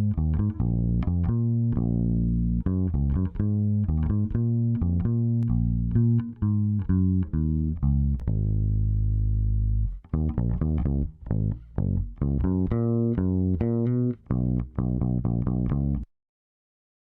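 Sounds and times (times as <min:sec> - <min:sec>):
electric bass guitar riff: 0:00.0 - 0:16.0.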